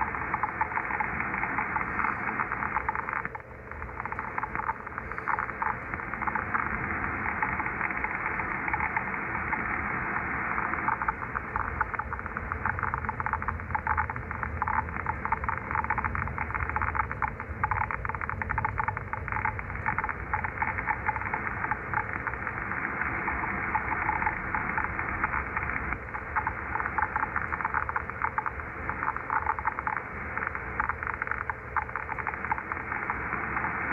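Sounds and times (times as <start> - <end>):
radio interference crackling clicks: 0.0 - 33.9
steady radio hiss: 0.0 - 33.9.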